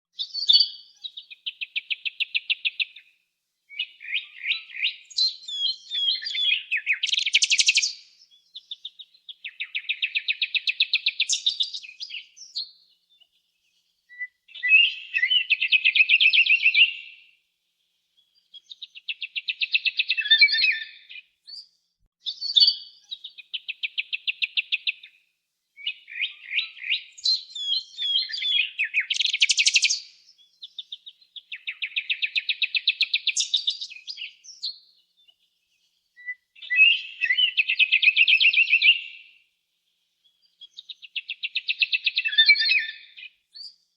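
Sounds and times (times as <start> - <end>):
songbird trilling and twittering: 0.2 - 3.1, 3.7 - 17.2, 18.2 - 25.2, 25.8 - 39.4, 40.2 - 43.9.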